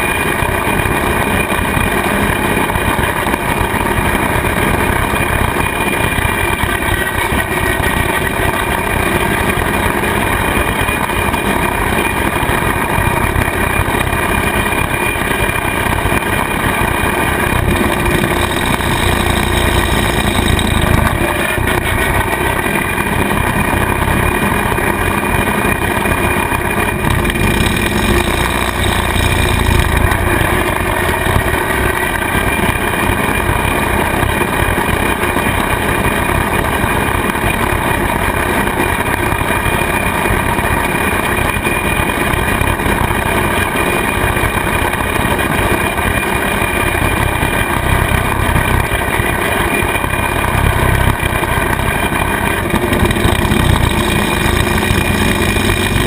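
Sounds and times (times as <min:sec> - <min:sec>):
rotary cutter mowing grass: 0:00.0 - 0:56.0
tractor diesel engine under load: 0:00.0 - 0:56.0.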